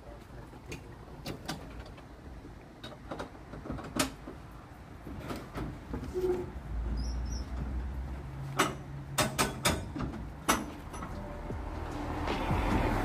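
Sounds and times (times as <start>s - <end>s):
streetcar wheels clicking and knocking: 0.0s - 13.0s.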